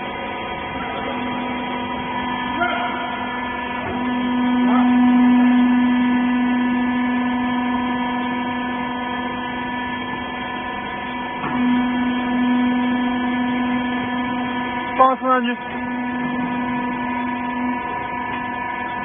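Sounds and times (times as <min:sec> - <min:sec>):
hydraulic pump motor humming: 0:00.0 - 0:19.0.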